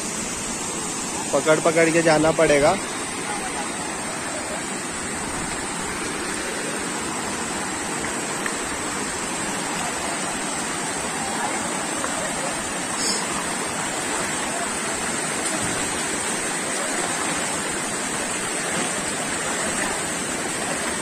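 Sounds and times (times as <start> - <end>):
stream water rushing over rocks: 0.0 - 21.0.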